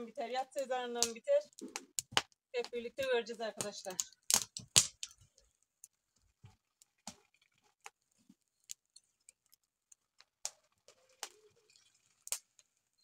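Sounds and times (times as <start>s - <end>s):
faint irregular clicks and pops: 0.4s - 13.0s.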